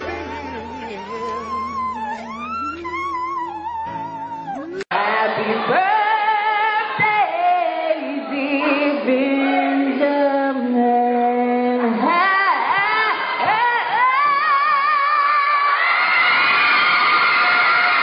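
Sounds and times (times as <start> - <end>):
woman singing into microphone: 0.0 - 15.8.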